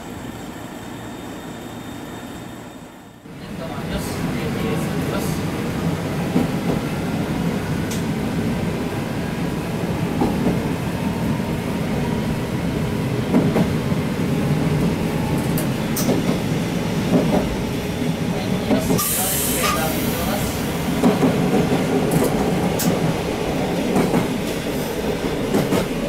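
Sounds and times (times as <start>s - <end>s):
railcar engine and wheel rumble: 0.0s - 26.0s.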